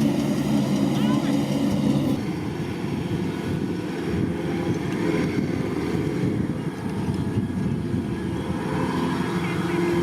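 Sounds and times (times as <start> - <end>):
combine harvester rumbling: 0.0 - 10.0
wind buffeting microphone: 0.0 - 10.0.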